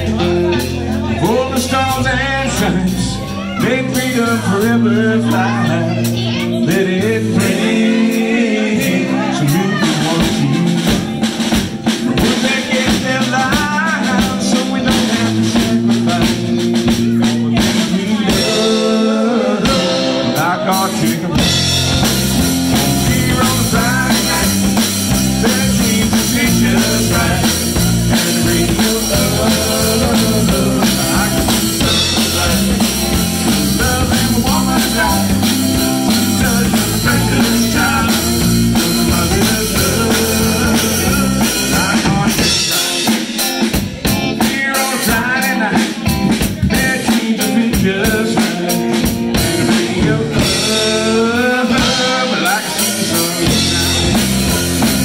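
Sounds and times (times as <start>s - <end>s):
drum kit: 0.0s - 55.0s
electric bass guitar: 0.0s - 55.0s
electric guitar: 0.0s - 55.0s.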